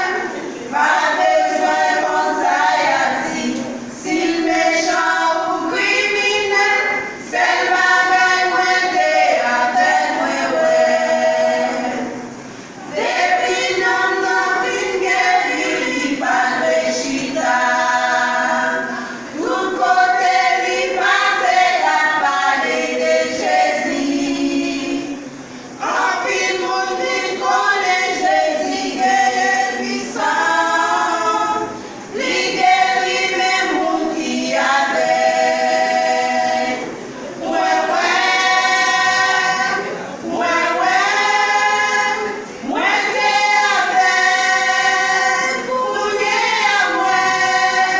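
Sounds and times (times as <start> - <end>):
vocal group singing a hymn: 0.0 - 47.9.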